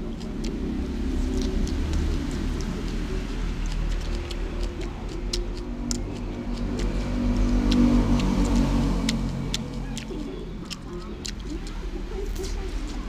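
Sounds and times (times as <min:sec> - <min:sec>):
low steady rumble: 0:00.0 - 0:13.0
vehicle engine passing by: 0:00.0 - 0:13.0.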